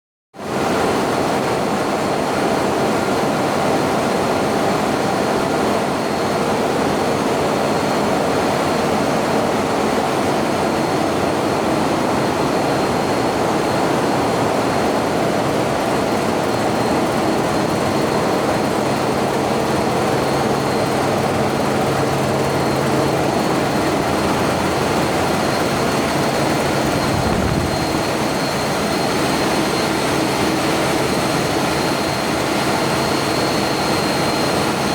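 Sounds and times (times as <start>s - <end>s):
faint high whine: 5.8s - 34.9s.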